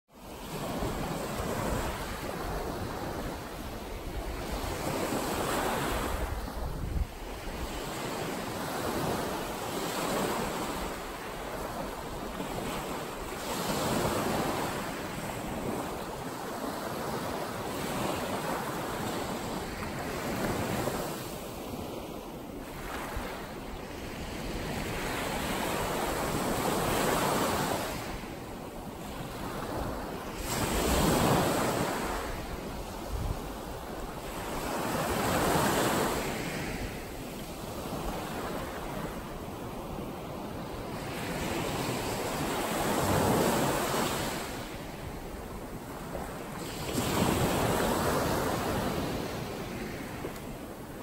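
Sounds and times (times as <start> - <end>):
waves breaking on beach: 0.2 - 51.0
wind rumbling on microphone: 0.5 - 51.0.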